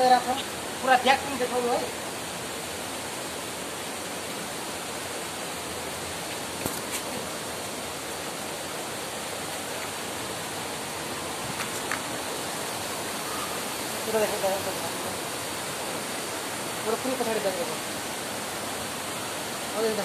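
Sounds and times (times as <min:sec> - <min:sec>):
water flowing among rocks: 0:00.0 - 0:20.0.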